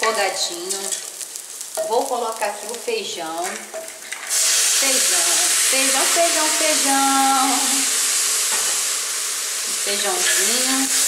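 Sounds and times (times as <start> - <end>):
loud sizzle: 0.0 - 11.0.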